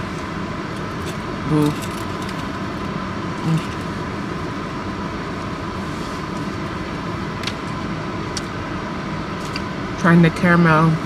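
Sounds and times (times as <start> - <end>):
air-conditioning fan: 0.0 - 11.0
car engine running: 0.0 - 11.0.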